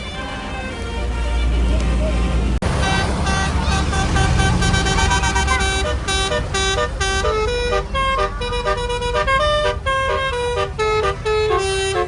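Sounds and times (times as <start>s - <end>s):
bus engine rumble: 0.0s - 12.0s
musical multi-tone bus horn: 0.0s - 12.0s.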